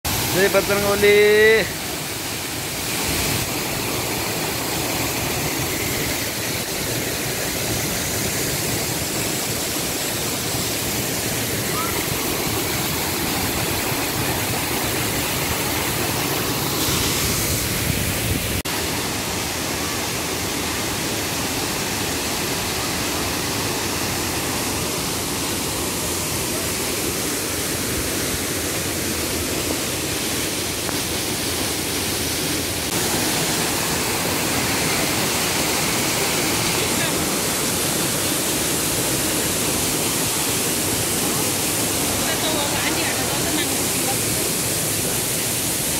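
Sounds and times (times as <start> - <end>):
waterfall rushing water: 0.1 - 45.9.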